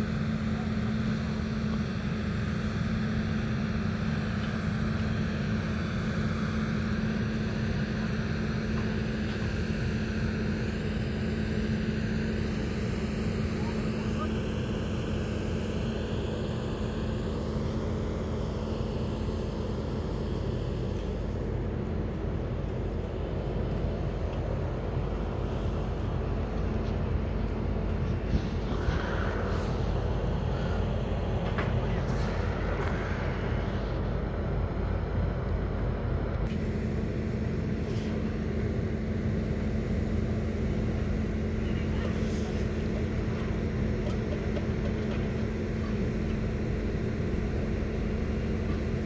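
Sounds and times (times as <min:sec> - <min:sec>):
engine running steadily: 0:00.0 - 0:49.0
steady hum: 0:00.0 - 0:49.0.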